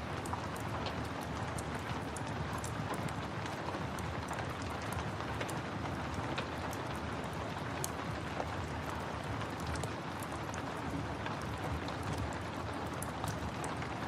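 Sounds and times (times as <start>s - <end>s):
steady rain: 0.0s - 14.0s
wood fire crackling: 0.2s - 14.0s.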